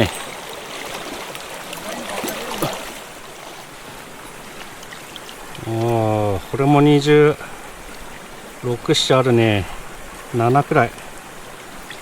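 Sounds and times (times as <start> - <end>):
stream flowing: 0.0 - 12.0.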